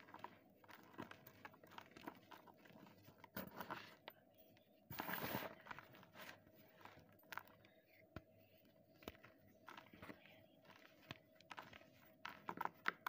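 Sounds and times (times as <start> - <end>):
fingers crumbling chalk: 0.0 - 4.6, 5.3 - 13.0.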